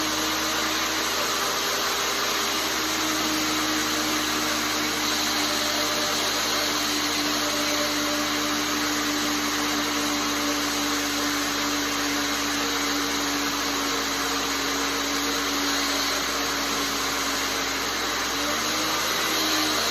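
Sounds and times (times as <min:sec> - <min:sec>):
belt grinder motor humming: 0:00.0 - 0:19.9.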